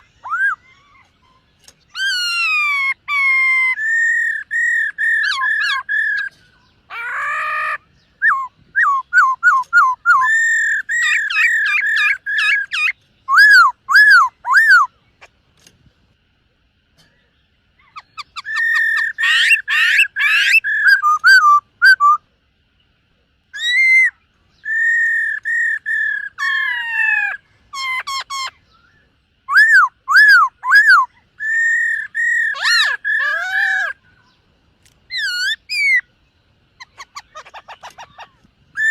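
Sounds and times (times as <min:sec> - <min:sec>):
bird singing whistled phrases: 0:00.0 - 0:15.0, 0:17.9 - 0:22.2, 0:23.5 - 0:34.0, 0:36.8 - 0:38.9.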